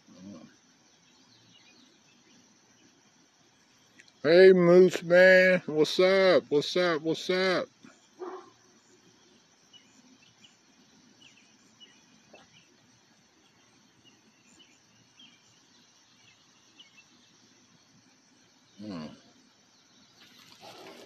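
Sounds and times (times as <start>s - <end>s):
faint outdoor ambience: 0.0s - 21.0s
small birds chirping: 0.0s - 21.0s.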